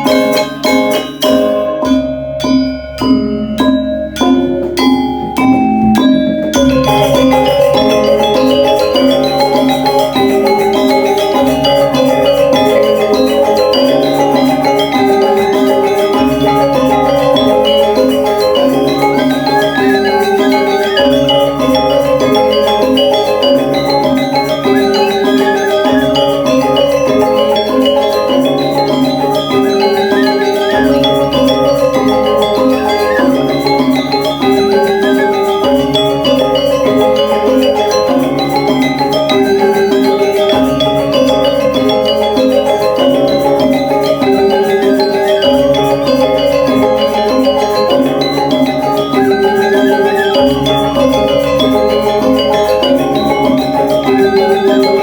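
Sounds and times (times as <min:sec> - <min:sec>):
gamelan metallophones ringing: 0:00.0 - 0:55.0.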